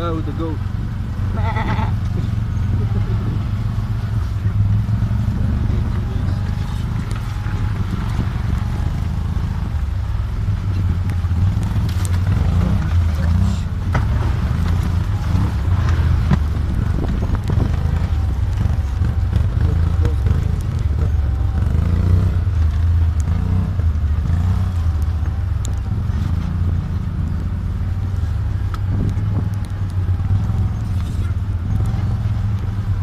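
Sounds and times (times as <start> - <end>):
off-road vehicle engine droning: 0.0 - 33.0.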